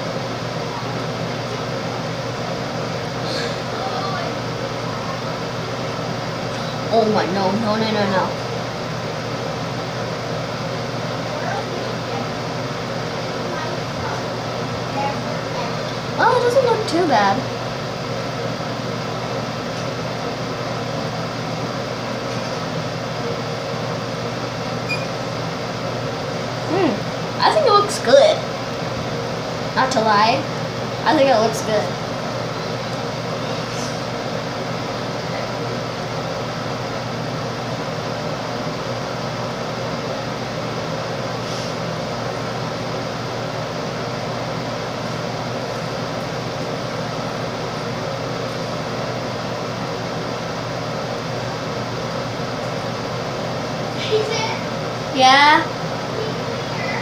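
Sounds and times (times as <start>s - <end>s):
ventilation fan whirring: 0.0s - 57.0s.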